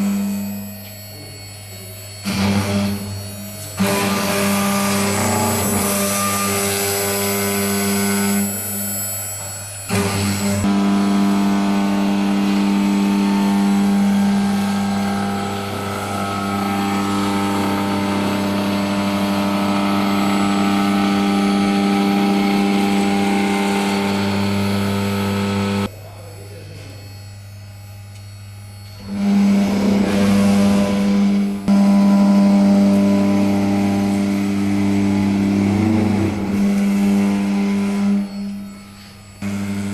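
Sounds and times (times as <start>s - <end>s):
low hum: 0.0s - 39.9s
router spindle whine: 0.0s - 39.9s.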